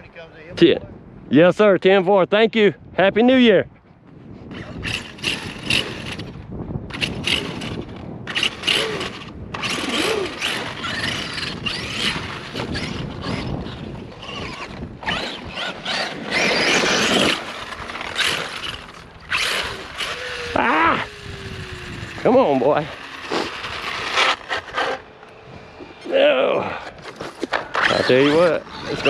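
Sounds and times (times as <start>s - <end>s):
tyres churning through dirt: 4.4s - 29.0s
electric motor whining: 4.5s - 26.1s, 26.9s - 29.0s.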